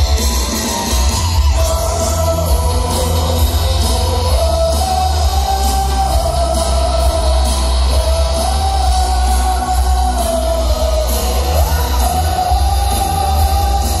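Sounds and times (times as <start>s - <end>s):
cumbia music over sound system: 0.0s - 14.0s.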